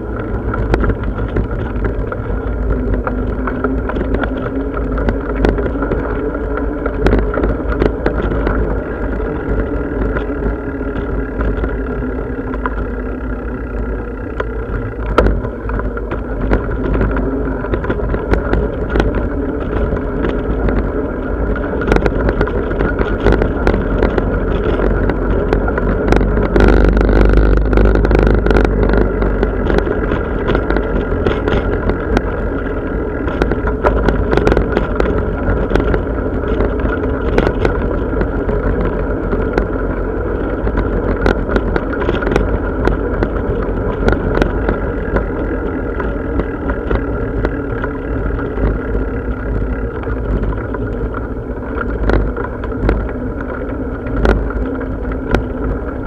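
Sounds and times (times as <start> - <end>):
bicycle clicks and rattles: 0.0 - 56.0
wind and road rumble: 0.0 - 56.0.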